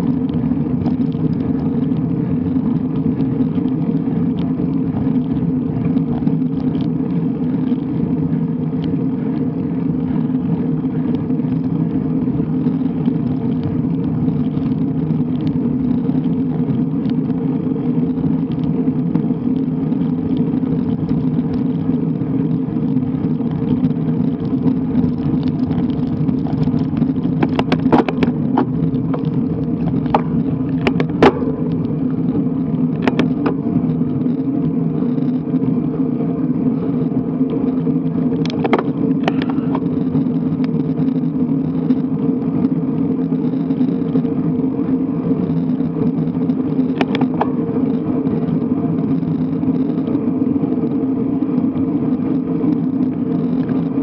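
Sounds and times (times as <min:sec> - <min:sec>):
bike clicks and rattles: 0:00.0 - 0:54.0
road and tyre vibration: 0:00.0 - 0:54.0
wind on microphone: 0:00.0 - 0:54.0.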